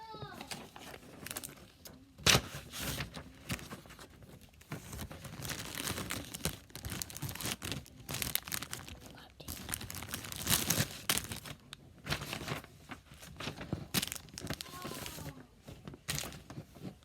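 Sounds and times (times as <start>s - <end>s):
plastic wrapper tearing and crinkling: 0.2s - 17.0s.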